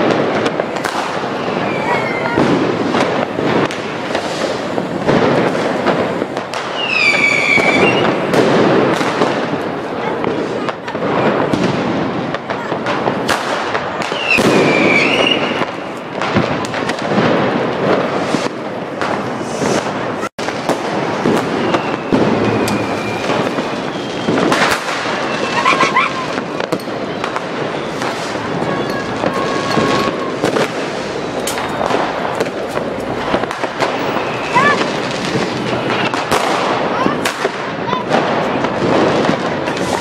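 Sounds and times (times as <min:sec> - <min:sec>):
whistling rockets: 0:00.0 - 0:09.6, 0:12.5 - 0:40.0
firecrackers and rockets banging: 0:00.0 - 0:40.0.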